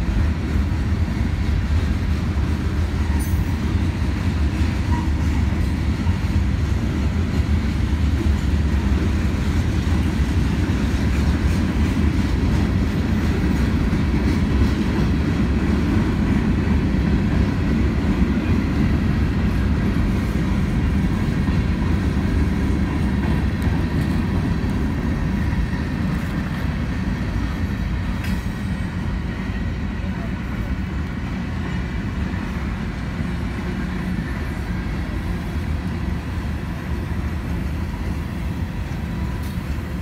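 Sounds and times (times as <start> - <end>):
freight train cars rolling on rails: 0.0 - 40.0.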